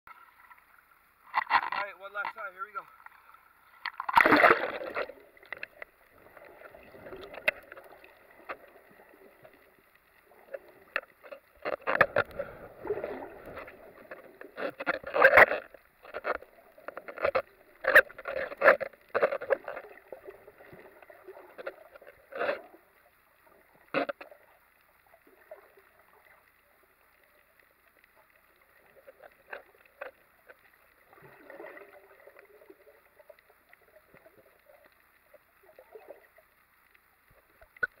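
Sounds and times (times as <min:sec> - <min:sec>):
muffled underwater gushes: 0:00.1 - 0:38.0.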